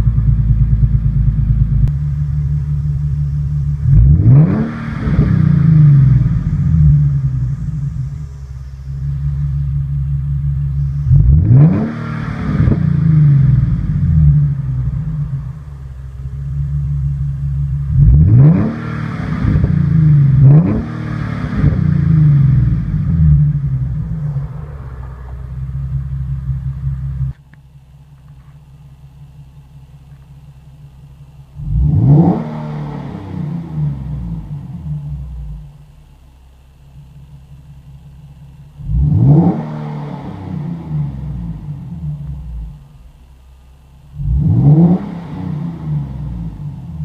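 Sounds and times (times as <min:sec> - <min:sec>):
engine revving: 0:00.0 - 0:27.5, 0:31.4 - 0:36.0, 0:38.6 - 0:43.1, 0:44.1 - 0:47.0
car engine idling: 0:00.0 - 0:47.0.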